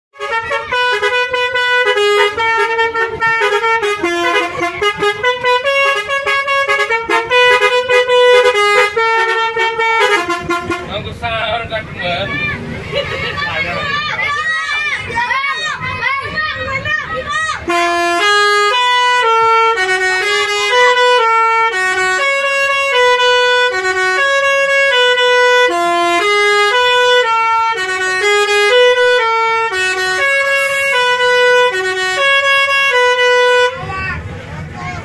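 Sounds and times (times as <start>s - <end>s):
musical bus horn playing a tune: 0.1s - 11.2s, 17.3s - 34.3s.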